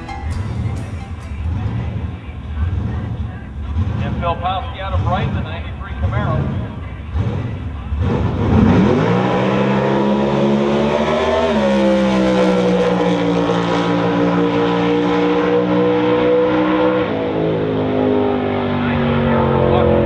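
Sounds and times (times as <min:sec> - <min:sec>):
drag car engine at full throttle: 0:01.4 - 0:20.0.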